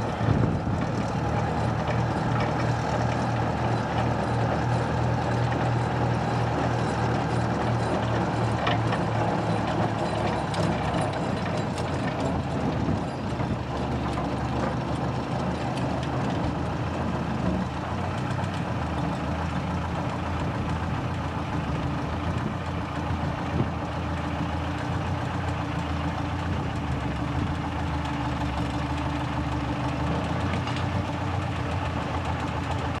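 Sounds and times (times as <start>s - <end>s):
diesel locomotive engine running: 0.0s - 33.0s.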